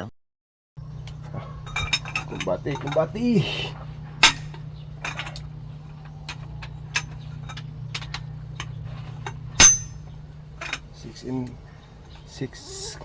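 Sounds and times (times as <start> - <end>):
steady low hum: 0.8 - 13.0
metal tools clicking and clinking: 0.9 - 12.3.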